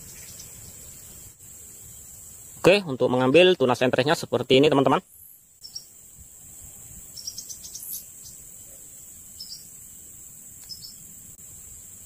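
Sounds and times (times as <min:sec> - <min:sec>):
crickets and insects droning: 0:00.0 - 0:12.0.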